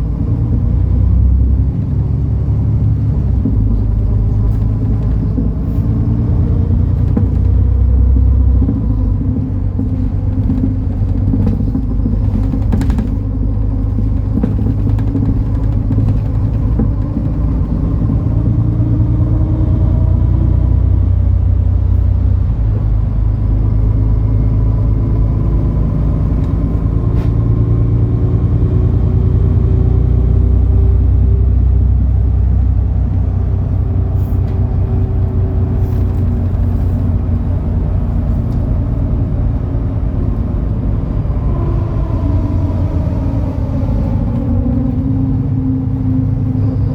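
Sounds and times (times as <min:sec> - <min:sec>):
bus diesel engine rumbling: 0:00.0 - 0:46.9.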